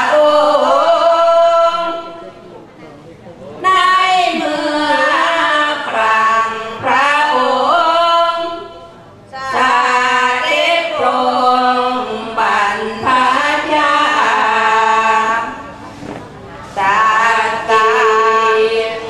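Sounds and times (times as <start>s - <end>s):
women chanting through a microphone: 0.0s - 2.4s, 3.6s - 19.0s.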